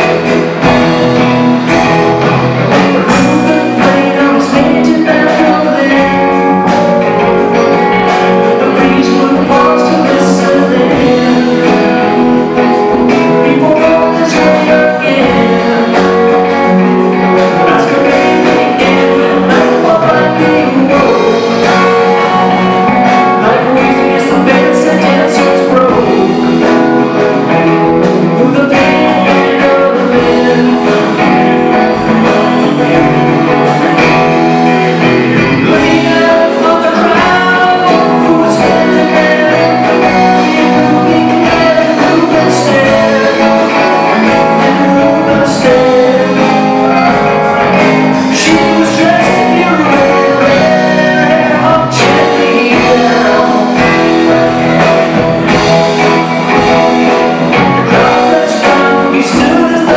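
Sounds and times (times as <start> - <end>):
drum kit: 0.0 - 59.9
electric guitar: 0.0 - 59.9
keyboards: 0.0 - 59.9
person singing: 0.0 - 59.9.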